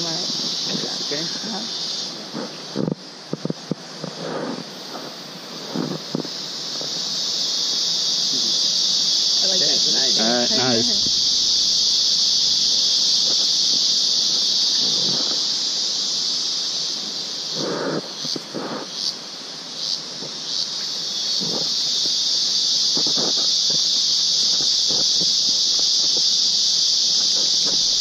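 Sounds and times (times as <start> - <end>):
insects calling drone: 0.0 - 28.0.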